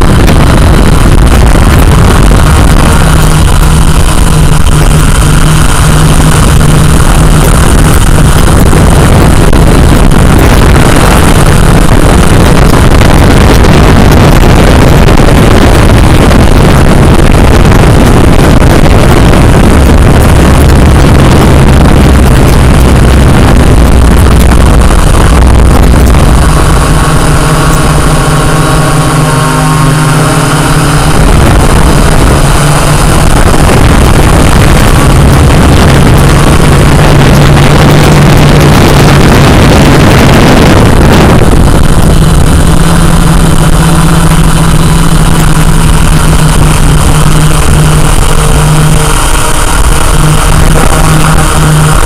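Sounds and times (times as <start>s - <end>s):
drone propellers buzzing: 0.0s - 52.0s.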